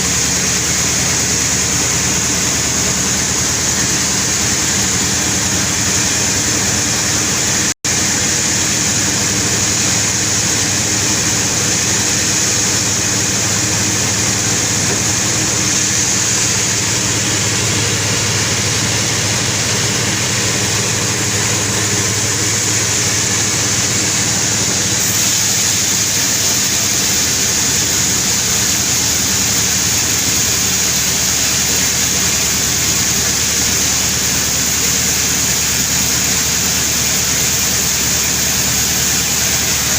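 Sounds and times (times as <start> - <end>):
low engine drone: 0.0 - 39.9
saw hissing through wood: 0.0 - 39.9.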